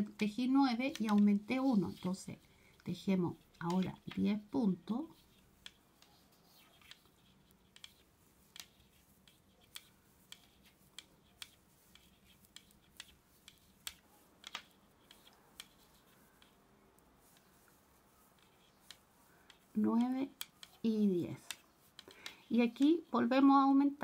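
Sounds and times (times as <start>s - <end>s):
knitting needles clicking: 0.0s - 23.2s.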